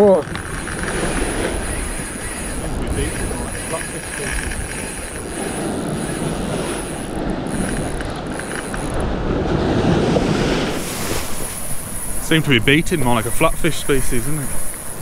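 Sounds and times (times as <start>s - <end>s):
fishing reel winding: 0.2s - 9.1s, 11.3s - 15.0s.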